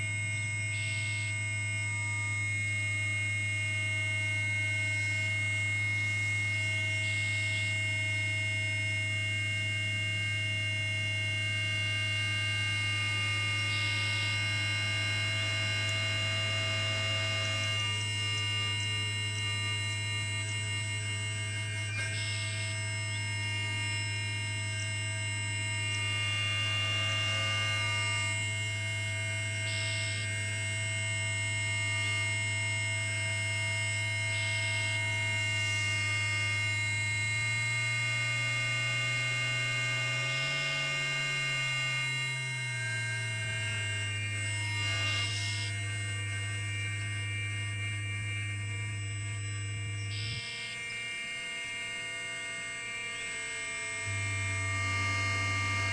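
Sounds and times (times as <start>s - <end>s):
low electronic drone: 0.0s - 55.9s
steady high electronic tones: 0.0s - 55.9s.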